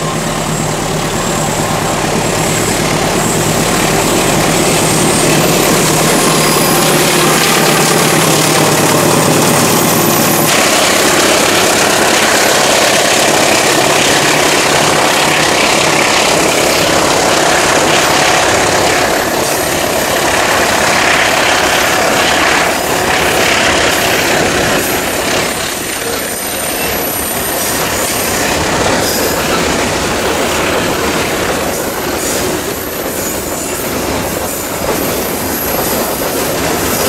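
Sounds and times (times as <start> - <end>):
diesel locomotive engine passing: 0.0 - 37.0
wagons rolling on rails: 0.9 - 37.0.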